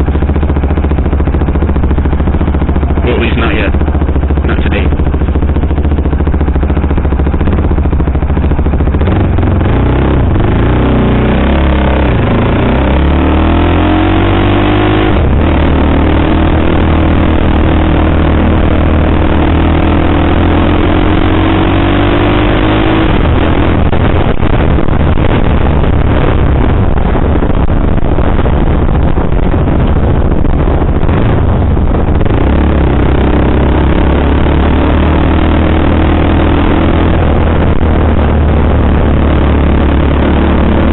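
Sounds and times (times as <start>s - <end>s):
motorcycle engine accelerating: 0.0s - 40.9s
rush of noise: 0.0s - 40.9s.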